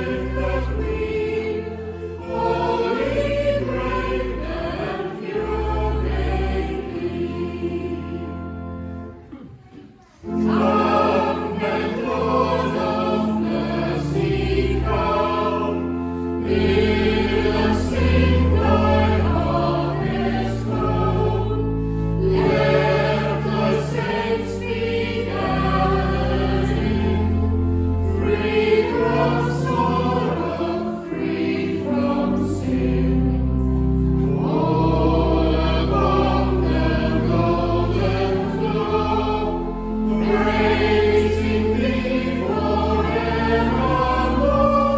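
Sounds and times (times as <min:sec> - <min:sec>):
organ holding low notes: 0:00.0 - 0:09.5, 0:10.2 - 0:44.9
congregation and choir singing hymn: 0:00.0 - 0:44.9.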